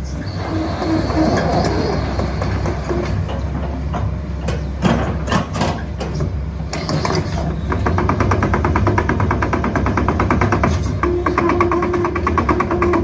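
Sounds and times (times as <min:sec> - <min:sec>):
excavator tracks clattering: 0:00.0 - 0:13.0.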